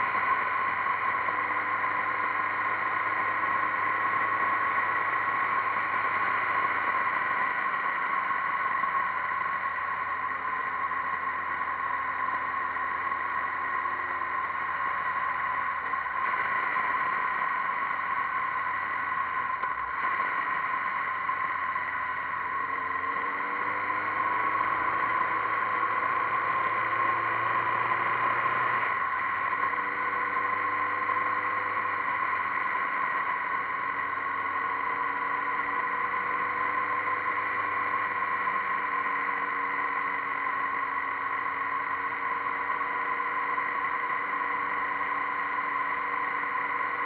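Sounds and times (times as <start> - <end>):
motorcycle engine running: 0.0 - 47.0
road noise: 0.0 - 47.0.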